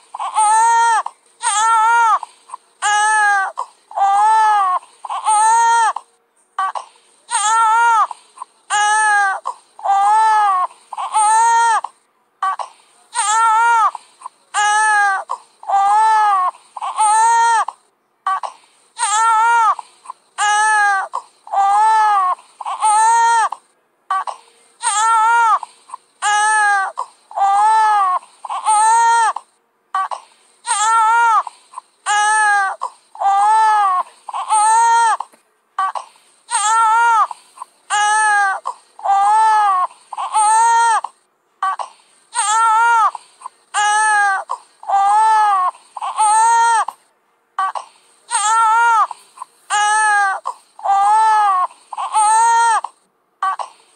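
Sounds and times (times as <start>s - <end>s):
baby crying: 0.1s - 6.0s, 6.6s - 47.0s, 47.6s - 53.9s.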